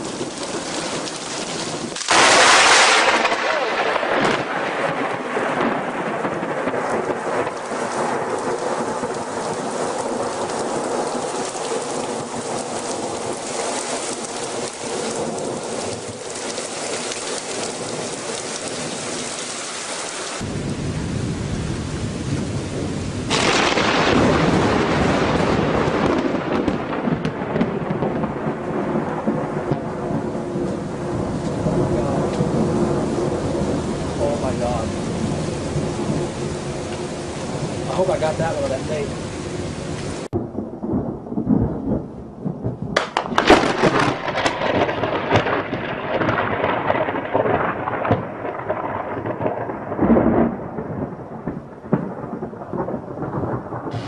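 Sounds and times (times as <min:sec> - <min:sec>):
thunder rumbling: 0:00.0 - 0:19.5, 0:20.4 - 0:54.0
heavy rain pouring: 0:00.0 - 0:54.0.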